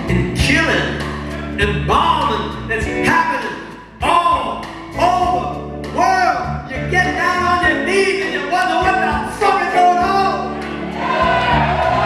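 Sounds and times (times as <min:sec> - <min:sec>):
man singing: 0:00.0 - 0:10.5
live rock band playing: 0:00.0 - 0:12.0.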